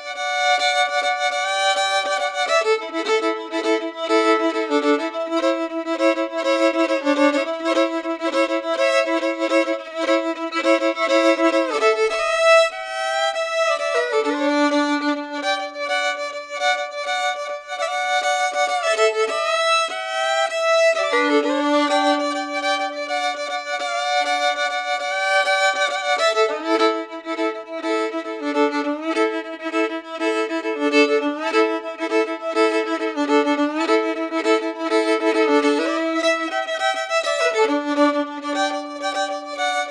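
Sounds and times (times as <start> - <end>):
solo fiddle melody: 0.0 - 39.9.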